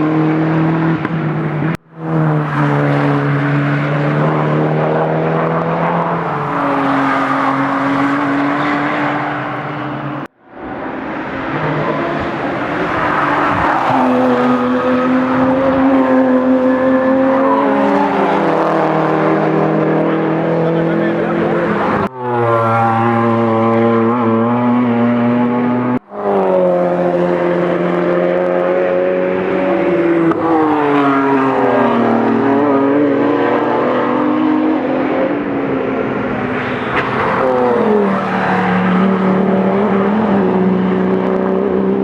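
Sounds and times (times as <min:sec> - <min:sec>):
race car engine: 0:00.0 - 0:42.0.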